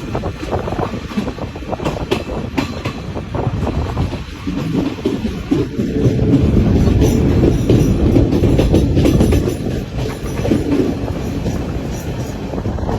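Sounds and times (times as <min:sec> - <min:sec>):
train rumbling: 0:00.0 - 0:12.9
wheels clattering over rails: 0:00.0 - 0:12.9.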